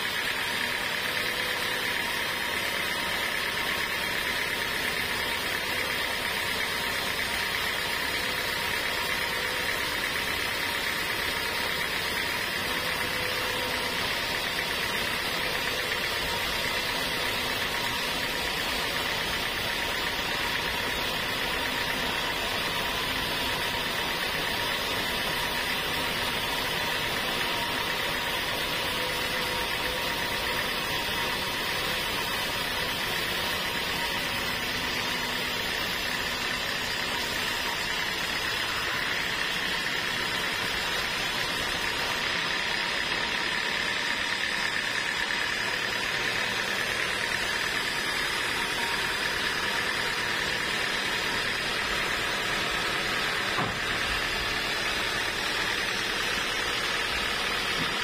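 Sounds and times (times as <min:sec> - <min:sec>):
band saw cutting through log: 0:00.0 - 0:58.0.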